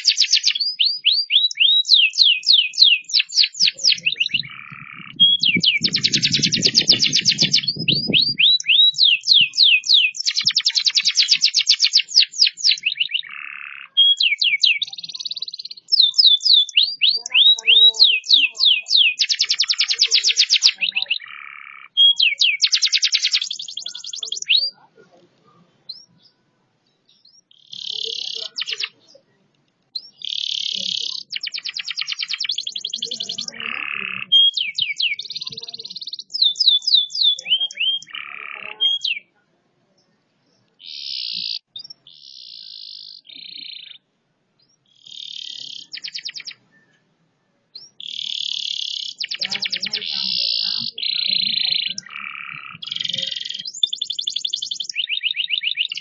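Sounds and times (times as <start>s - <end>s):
canary singing trills: 0.0s - 39.4s, 40.0s - 47.1s, 47.7s - 56.0s.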